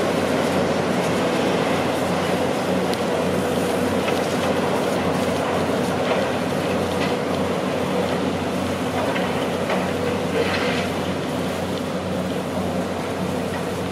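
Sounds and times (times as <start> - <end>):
diesel machinery engines humming: 0.0 - 13.9.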